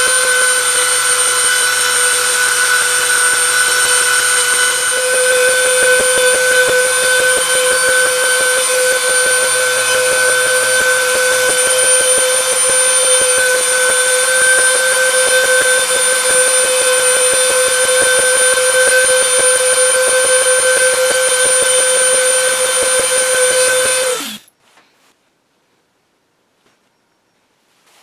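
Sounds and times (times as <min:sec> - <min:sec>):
rotary tool whining: 0:00.0 - 0:24.5.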